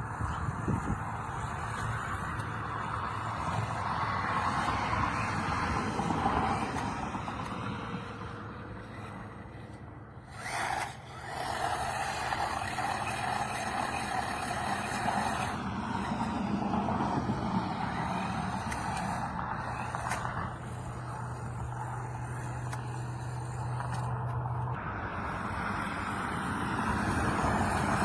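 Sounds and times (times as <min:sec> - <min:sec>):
toy truck motor whirring: 0:00.0 - 0:28.0.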